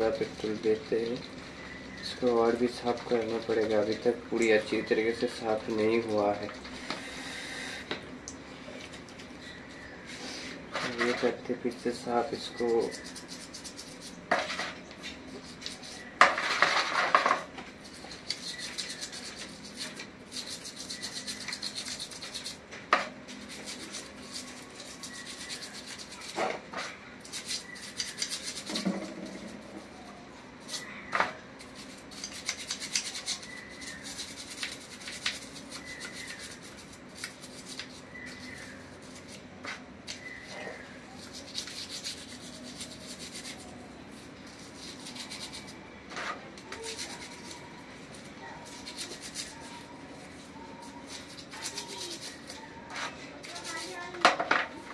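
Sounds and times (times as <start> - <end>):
brush scrubbing metal: 2.0 - 6.5, 10.2 - 30.9, 31.6 - 54.9.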